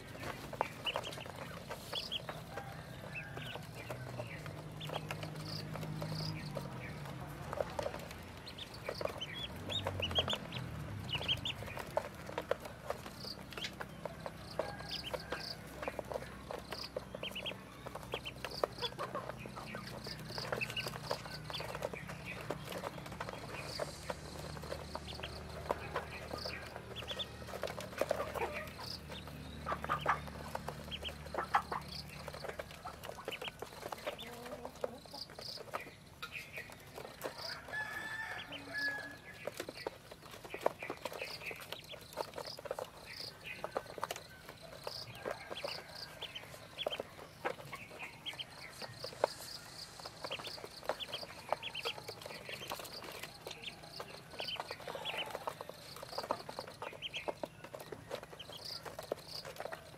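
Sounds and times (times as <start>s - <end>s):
ducklings peeping: 0.0s - 59.9s.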